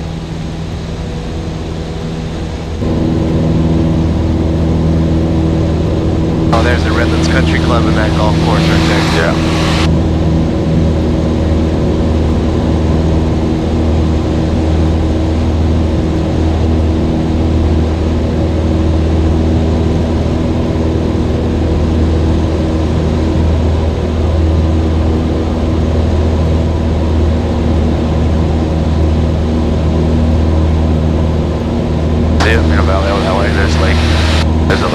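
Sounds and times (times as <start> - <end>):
airplane engine and propeller droning: 0.0 - 34.9.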